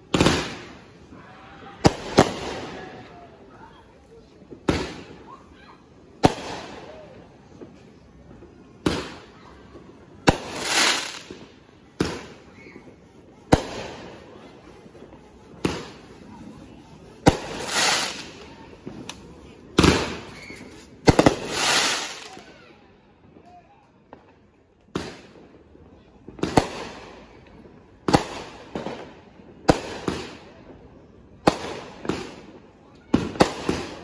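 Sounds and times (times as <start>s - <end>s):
fireworks bangs: 0.0s - 3.2s, 4.4s - 5.5s, 6.1s - 23.4s, 26.2s - 30.8s, 31.4s - 34.0s.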